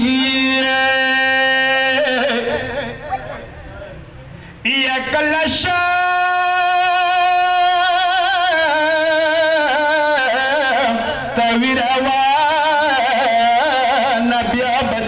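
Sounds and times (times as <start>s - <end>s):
man chanting a lament: 0.0s - 3.4s, 4.5s - 15.0s.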